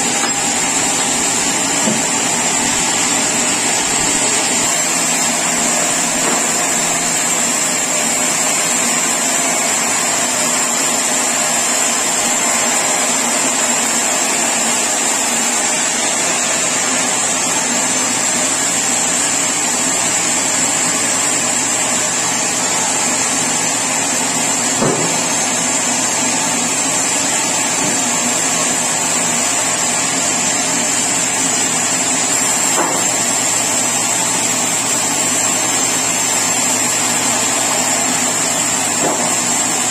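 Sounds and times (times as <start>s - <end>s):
sawmill machinery sawing: 0.0s - 39.9s.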